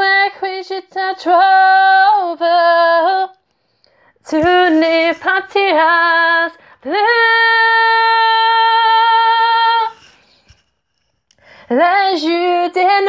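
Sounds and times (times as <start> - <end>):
woman singing a cappella: 0.0 - 3.4, 4.2 - 10.0, 11.6 - 13.0.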